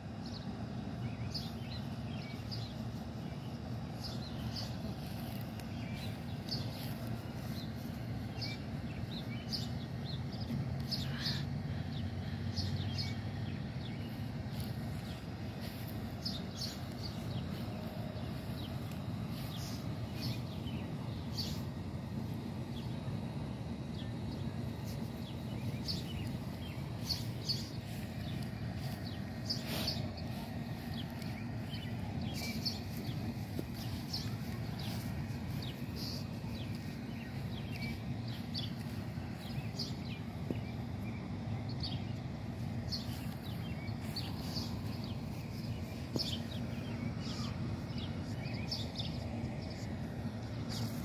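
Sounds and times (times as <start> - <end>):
birds chirping: 0.0 - 51.0
low outdoor rumble: 0.0 - 51.0.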